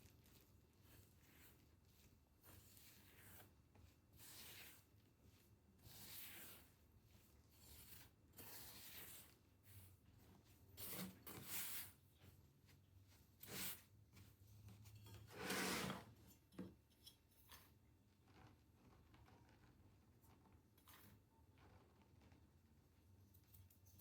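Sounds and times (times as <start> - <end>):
soft rubbing and scraping: 0.0 - 23.8.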